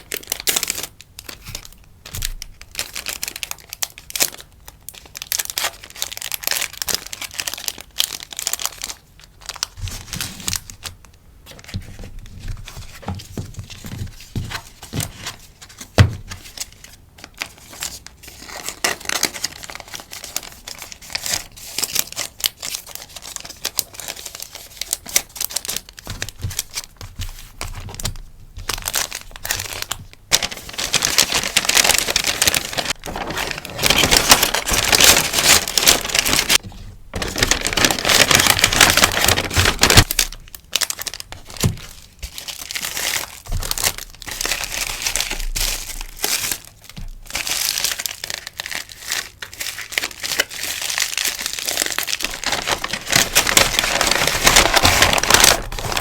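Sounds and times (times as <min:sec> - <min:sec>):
sticker packaging crinkling: 0:00.0 - 0:56.0.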